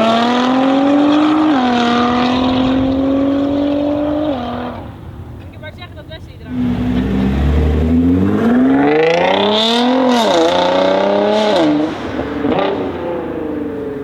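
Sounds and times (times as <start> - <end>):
car engine accelerating hard: 0.0 - 5.1, 6.5 - 14.0.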